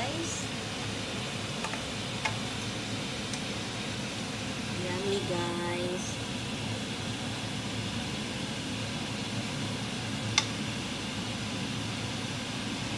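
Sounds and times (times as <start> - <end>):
gas hob hum and hiss: 0.0 - 12.9
stir-fry cooking in pan: 0.0 - 12.9.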